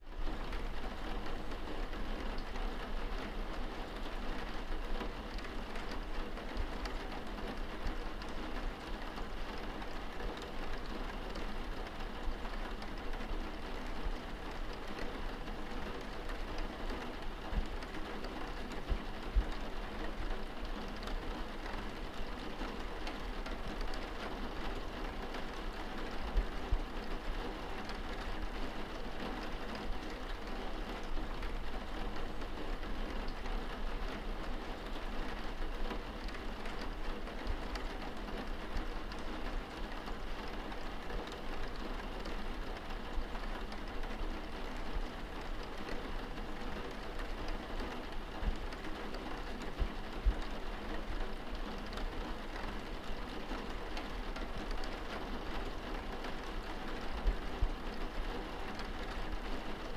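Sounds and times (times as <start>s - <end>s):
rain against a window: 0.0s - 59.9s.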